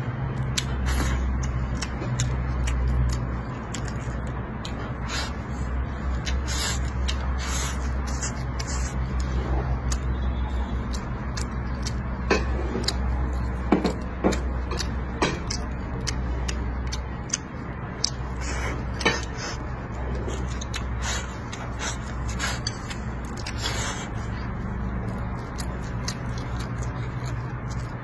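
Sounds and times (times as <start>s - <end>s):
chewing and mouth sounds: 0.0s - 28.0s
steady low hum: 0.0s - 28.0s.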